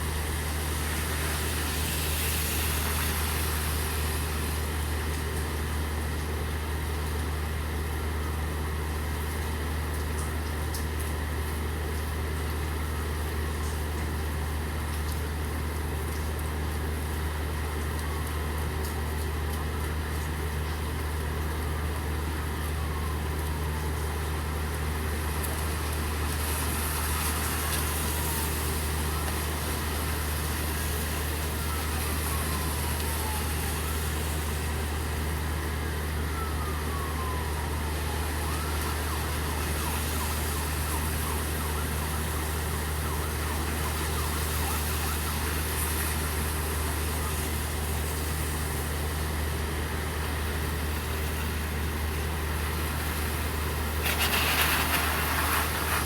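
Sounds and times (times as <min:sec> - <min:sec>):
distant emergency siren wailing: 0:00.0 - 0:56.0
low engine hum: 0:00.0 - 0:56.0
steady rain: 0:00.0 - 0:56.0.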